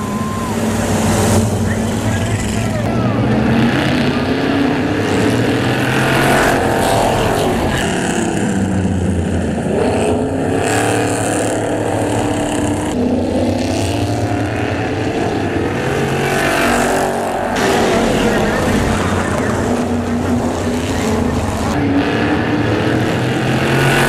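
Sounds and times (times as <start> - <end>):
racing truck engines: 0.0 - 24.0.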